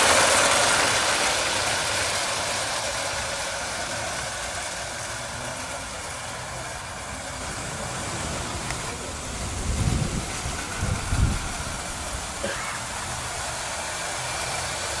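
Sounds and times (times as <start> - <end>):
model steam train running: 0.0 - 15.0.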